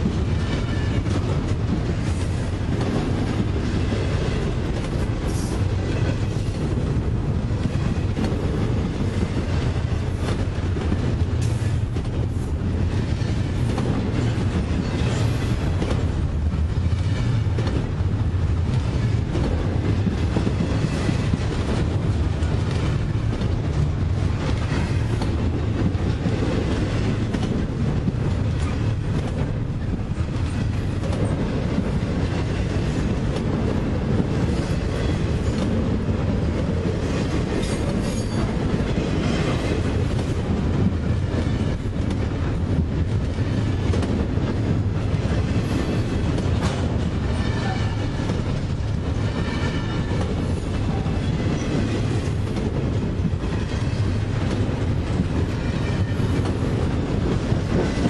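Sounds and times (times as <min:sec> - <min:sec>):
freight train rumbling past: 0:00.0 - 0:58.0
steel wheels clattering on rails: 0:00.0 - 0:58.0.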